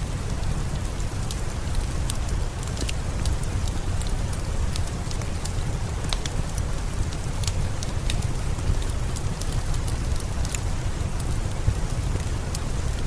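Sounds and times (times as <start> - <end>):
steady rain: 0.0 - 13.0
wood fire crackling: 0.0 - 13.0.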